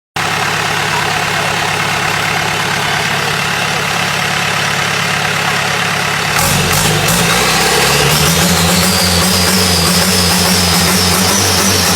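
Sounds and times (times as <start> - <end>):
boat engine idling loudly: 0.2 - 11.9.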